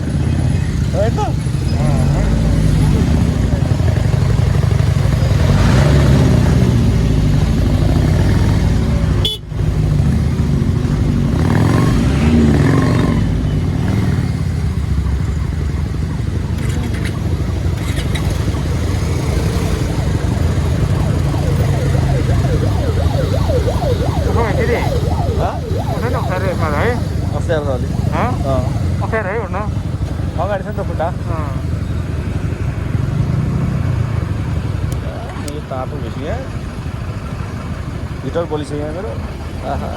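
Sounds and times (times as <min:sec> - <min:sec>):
motorcycle engine rumble: 0:00.0 - 0:39.9
passing traffic: 0:00.0 - 0:39.9.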